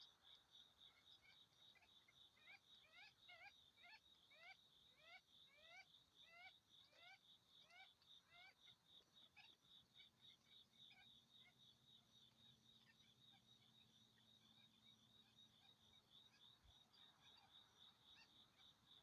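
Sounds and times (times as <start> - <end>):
pulsing insect chorus: 0.0 - 19.0.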